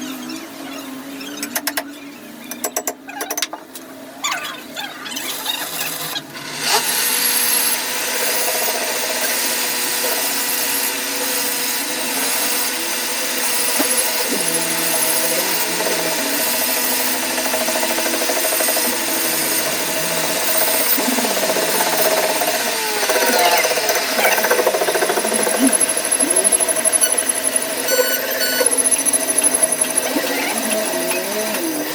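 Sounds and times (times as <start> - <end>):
power tool working on metal: 5.1 - 31.9.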